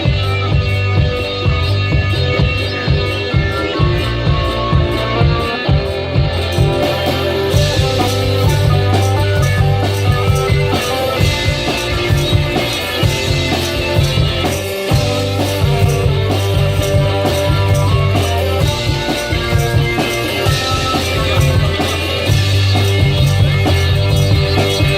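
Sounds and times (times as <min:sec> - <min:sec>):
guitar and bass guitar: 0:00.0 - 0:24.9
pedal drum beat: 0:00.0 - 0:24.9.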